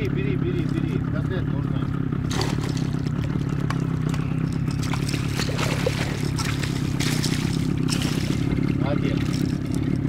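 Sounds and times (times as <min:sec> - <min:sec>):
outboard motor running: 0:00.0 - 0:10.0
water splashing and trickling: 0:00.1 - 0:10.0.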